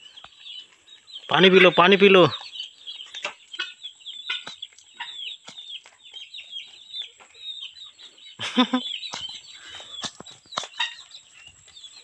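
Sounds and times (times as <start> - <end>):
fowl chirping calls: 0.0 - 12.0.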